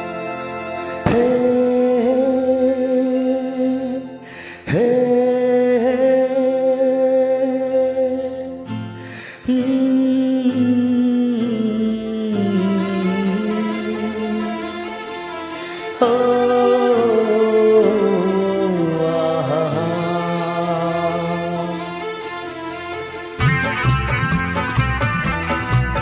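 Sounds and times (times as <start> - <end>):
slow instrumental melody: 0.0 - 26.0.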